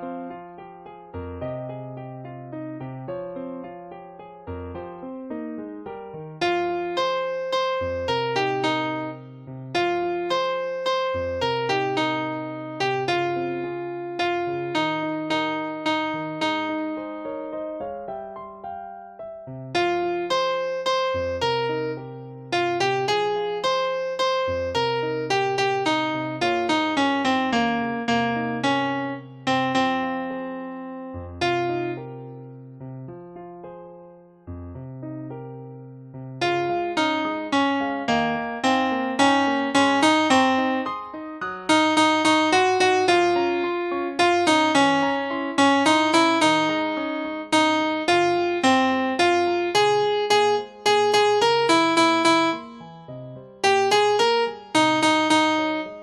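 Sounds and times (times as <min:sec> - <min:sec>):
piano keyboard melody: 0:00.0 - 0:56.0.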